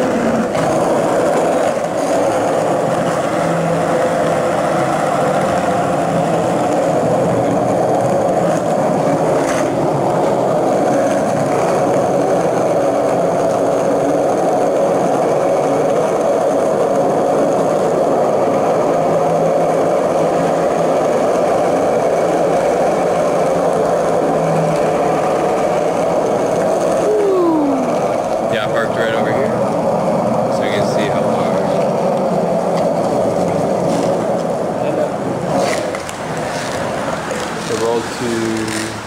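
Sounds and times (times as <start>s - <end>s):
skateboard wheels rolling on concrete: 0.0s - 39.0s.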